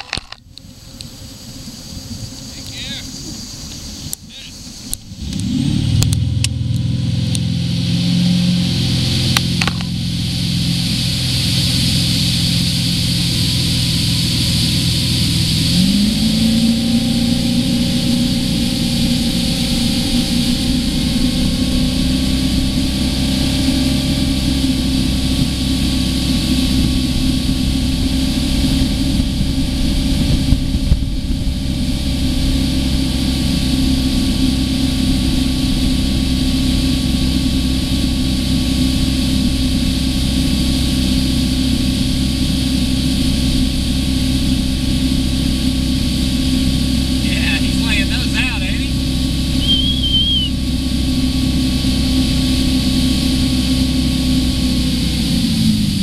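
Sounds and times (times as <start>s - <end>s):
boat engine running: 0.0s - 56.0s
rush of wind and water: 0.0s - 56.0s.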